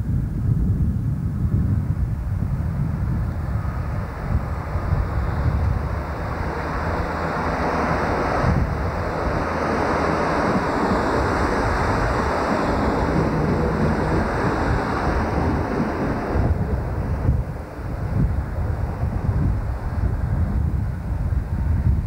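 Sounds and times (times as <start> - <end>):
train wheels and air rushing: 0.0 - 22.0
wind buffeting microphone: 0.0 - 22.0.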